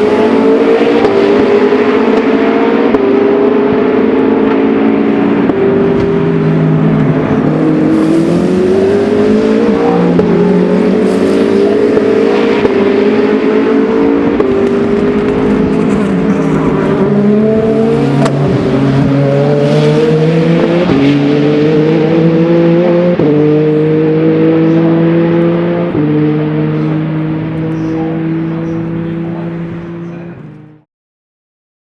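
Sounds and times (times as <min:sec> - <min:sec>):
race car engines accelerating: 0:00.0 - 0:30.8.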